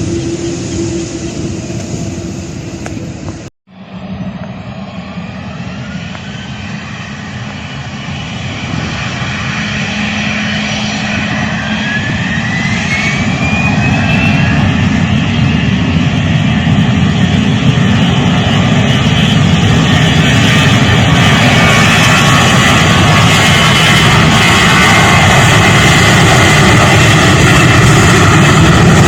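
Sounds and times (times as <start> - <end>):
airliner engines running: 0.0 - 29.0
rising whine: 0.0 - 29.0.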